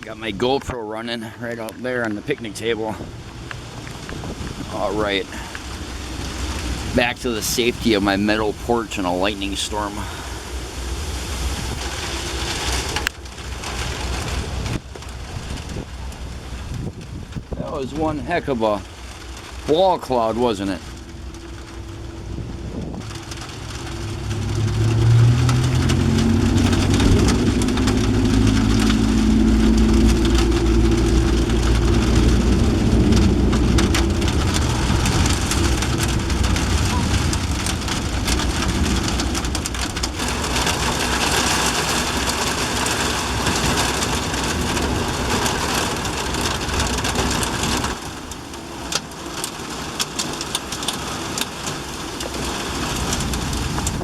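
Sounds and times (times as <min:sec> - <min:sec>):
heavy rain pouring: 0:00.0 - 0:54.0
low rumble: 0:00.0 - 0:54.0.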